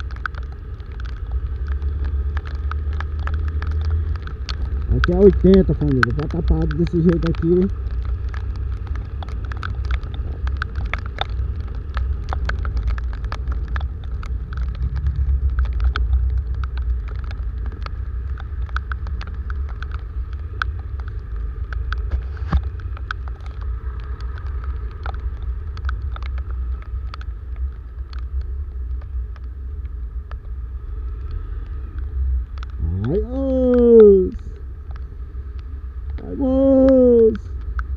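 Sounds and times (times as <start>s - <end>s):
raindrops ticking on camera: 0.0s - 37.9s
wind rumble: 0.0s - 37.9s.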